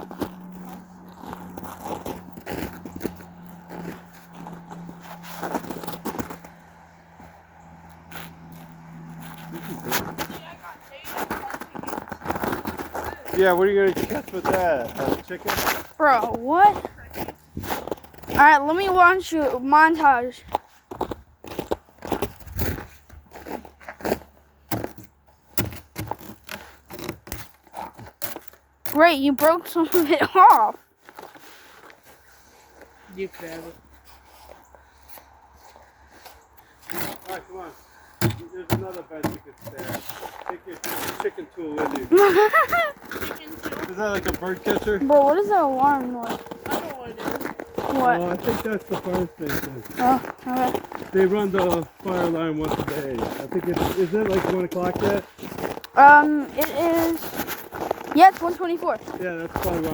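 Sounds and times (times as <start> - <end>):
crunching on snow and ice: 0.0 - 59.9.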